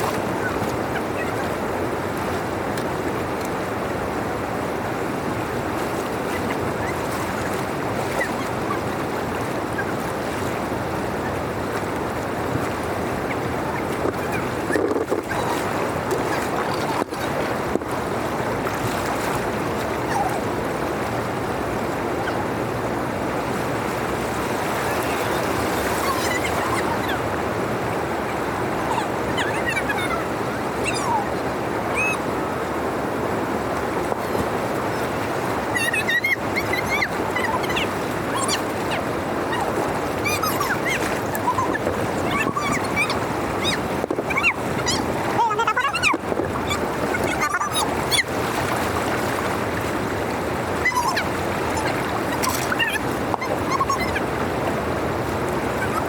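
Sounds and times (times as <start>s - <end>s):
water rushing through drainage channel: 0.0s - 56.0s.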